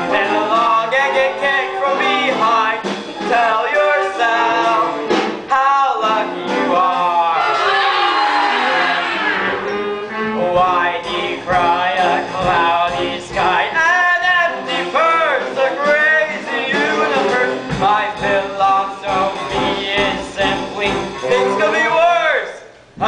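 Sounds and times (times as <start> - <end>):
instrumental accompaniment: 0.0 - 22.3
voices singing: 0.0 - 22.6.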